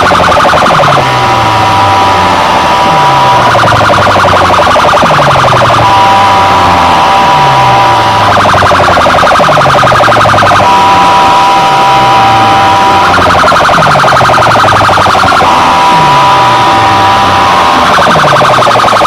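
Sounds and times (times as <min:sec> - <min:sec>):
siren-like electronic effect: 0:00.0 - 0:19.0.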